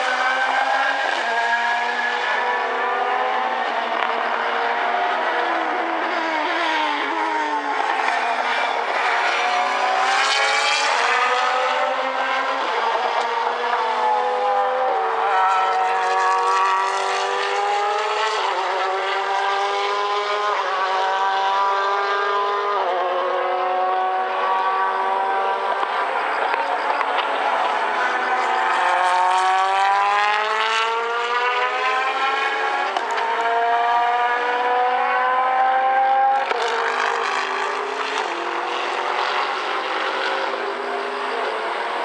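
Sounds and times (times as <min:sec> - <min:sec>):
racing car engines at full throttle: 0:00.0 - 0:42.0.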